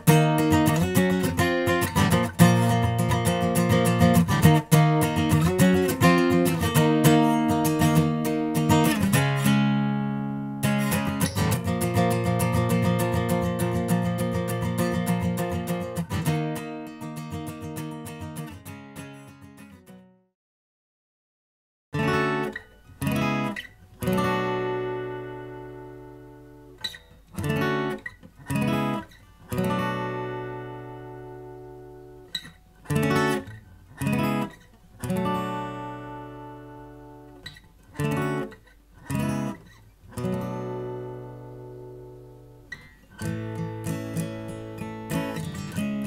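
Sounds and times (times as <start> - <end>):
acoustic guitar strummed chords: 0.0 - 20.2, 22.0 - 46.0.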